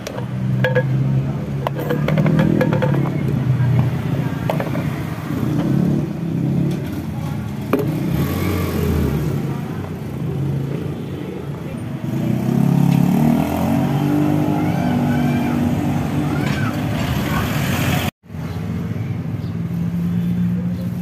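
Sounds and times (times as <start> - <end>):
vehicle engine passing: 0.2 - 18.1.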